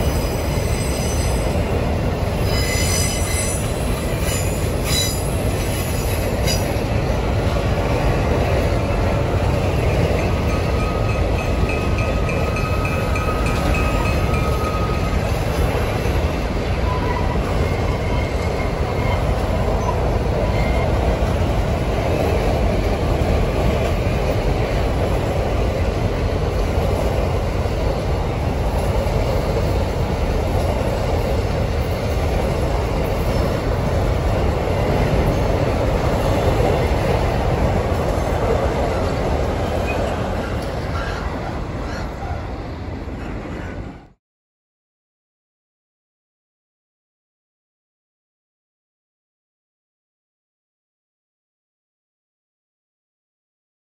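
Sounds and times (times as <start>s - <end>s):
steel train wheels rumbling and rattling: 0.0s - 44.2s.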